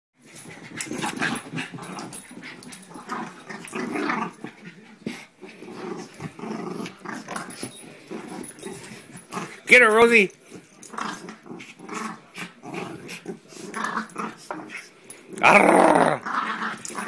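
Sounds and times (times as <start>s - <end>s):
dogs play-growling: 0.2s - 9.7s, 10.3s - 17.0s.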